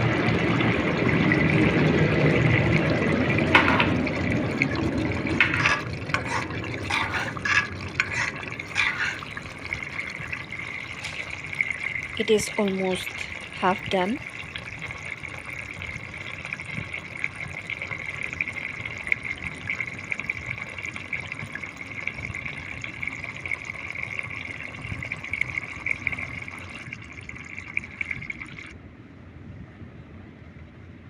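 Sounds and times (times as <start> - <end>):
curry bubbling in a pan: 0.0 - 28.8.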